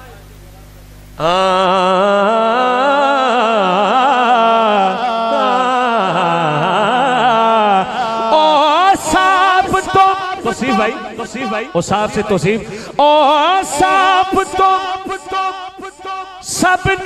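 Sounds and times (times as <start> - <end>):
man singing into a microphone: 1.2 - 17.0.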